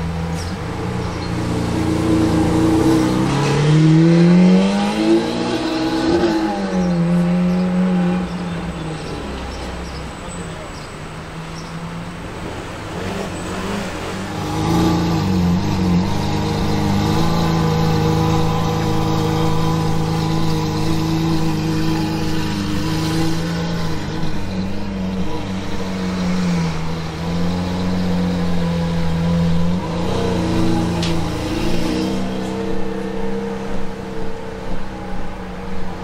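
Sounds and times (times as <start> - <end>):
car engine pulling away: 0.0 - 36.0.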